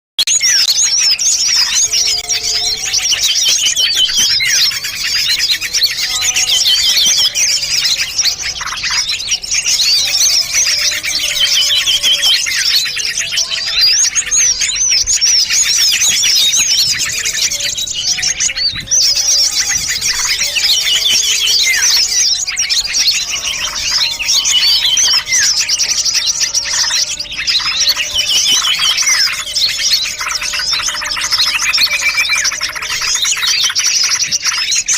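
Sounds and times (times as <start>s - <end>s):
songbirds chirping and twittering: 0.2s - 34.9s.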